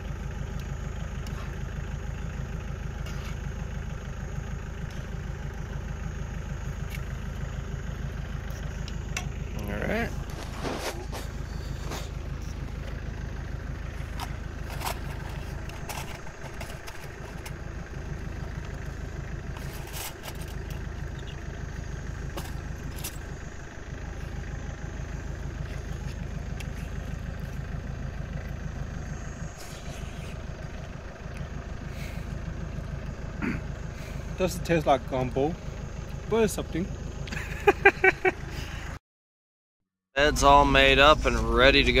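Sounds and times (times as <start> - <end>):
vehicle engine idling: 0.0 - 39.0, 40.2 - 42.0.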